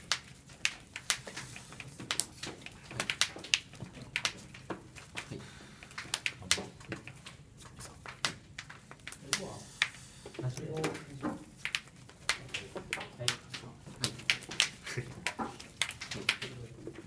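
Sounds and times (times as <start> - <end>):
cards clicking and tapping: 0.1 - 17.0.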